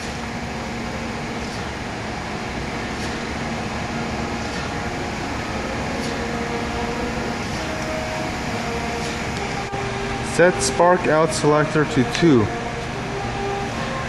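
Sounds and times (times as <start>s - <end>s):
grinder mechanical hum: 0.0s - 14.0s.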